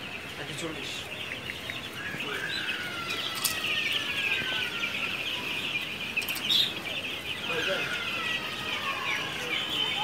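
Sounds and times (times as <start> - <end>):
chicks peeping and chirping: 0.0 - 10.0.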